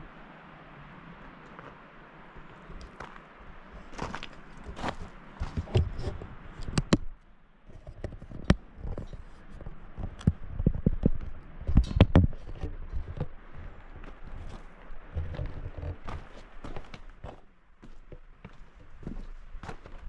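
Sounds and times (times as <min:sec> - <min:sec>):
footsteps on a trail: 0:01.2 - 0:06.9, 0:07.7 - 0:20.0.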